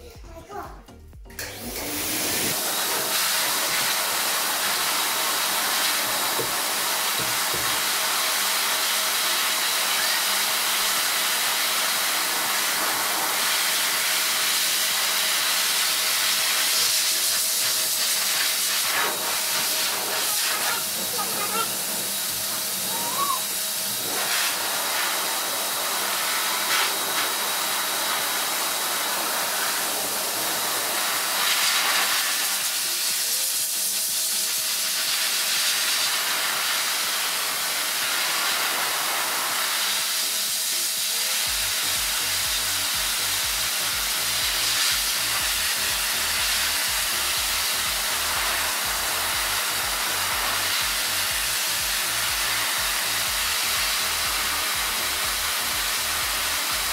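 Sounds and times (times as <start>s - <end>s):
dog dryer blowing air: 1.4s - 56.9s.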